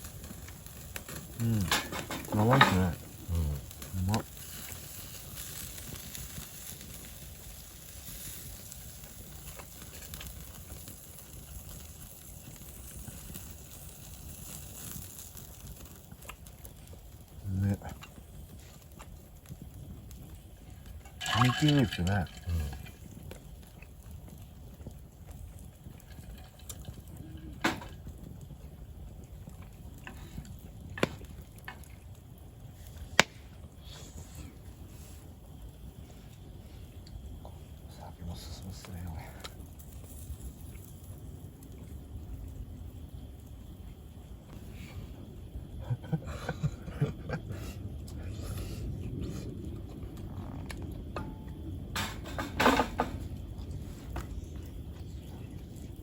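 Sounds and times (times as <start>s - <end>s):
campfire crackling and popping: 0.0s - 56.0s
low steady rumble: 5.7s - 56.0s.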